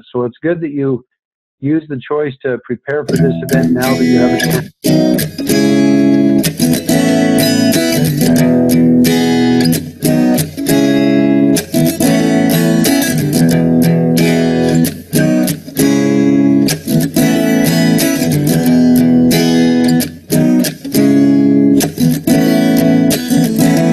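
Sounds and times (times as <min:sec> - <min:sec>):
strummed guitar chords: 0:03.0 - 0:23.9.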